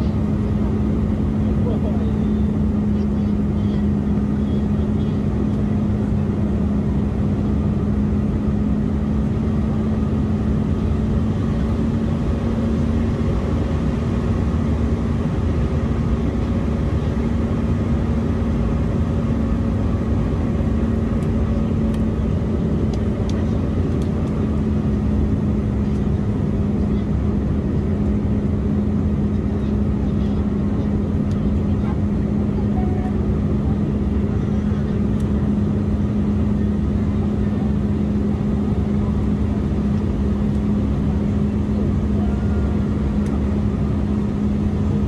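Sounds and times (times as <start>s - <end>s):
airliner cabin engine drone: 0.0s - 45.0s
constant low hum: 0.0s - 45.0s.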